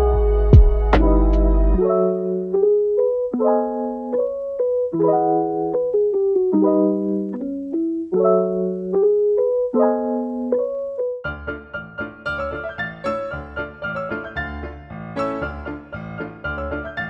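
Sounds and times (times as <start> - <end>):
piano-like keyboard music: 0.0 - 17.0.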